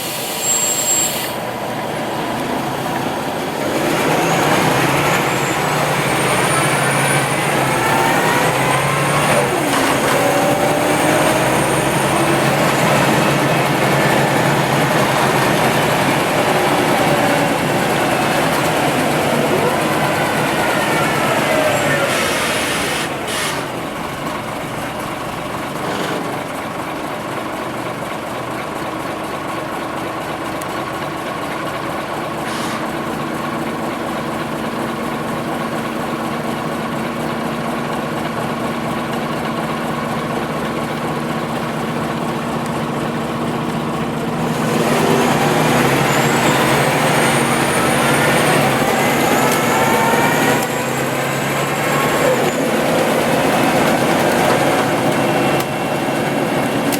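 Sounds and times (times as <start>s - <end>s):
bus diesel engine idling: 0.0s - 56.9s
bus pulling away whining: 0.0s - 56.9s.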